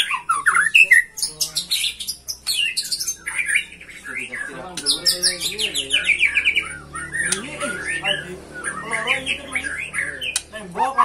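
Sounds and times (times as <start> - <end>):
birds chirping and squawking: 0.0 - 11.0
rapid high bird trills: 0.0 - 11.0.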